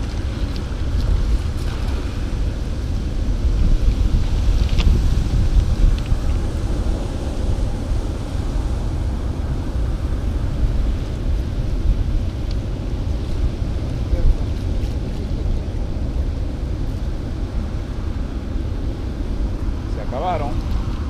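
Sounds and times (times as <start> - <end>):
faint water wash: 0.0 - 21.0
wind buffeting microphone: 0.0 - 21.0.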